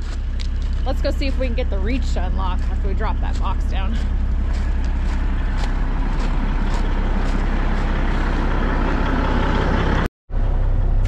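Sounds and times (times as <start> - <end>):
footsteps crunching on gravel: 0.0 - 9.1
diesel truck engine idling: 0.0 - 11.0.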